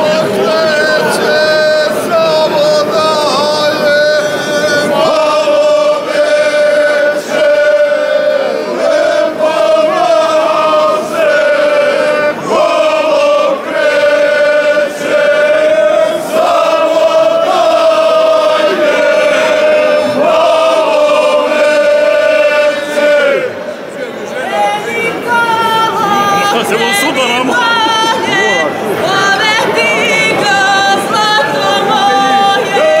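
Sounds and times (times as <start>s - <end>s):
group singing folk song: 0.0s - 33.0s.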